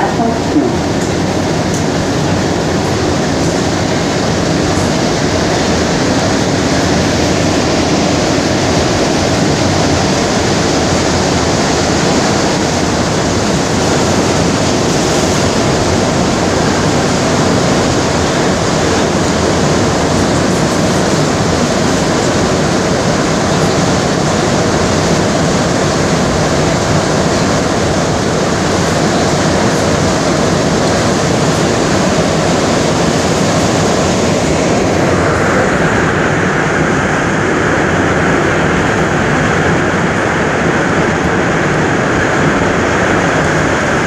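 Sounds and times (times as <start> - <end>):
metro train rumble in tunnel: 0.0 - 44.0.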